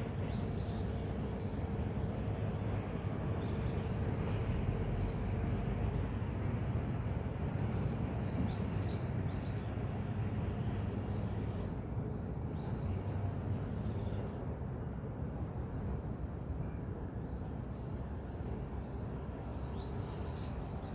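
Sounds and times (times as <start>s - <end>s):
crickets chirping: 0.0s - 20.9s.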